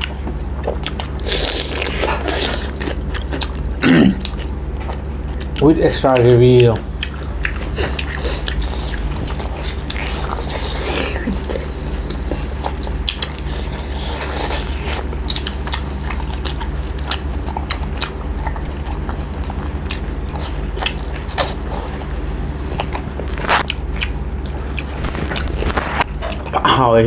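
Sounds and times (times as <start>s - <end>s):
people chewing with wet smacks: 0.0s - 26.9s
steady low hum: 0.0s - 27.0s.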